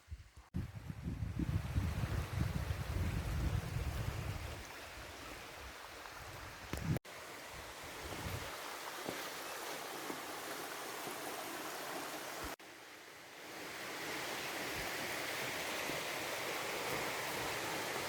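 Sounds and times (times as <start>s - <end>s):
running water: 0.8s - 18.0s.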